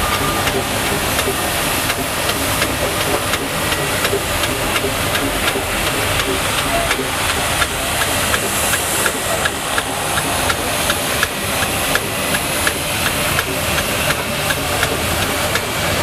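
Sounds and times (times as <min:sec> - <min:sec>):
steam engine beat: 0:00.0 - 0:16.0
steam hissing: 0:00.0 - 0:16.0.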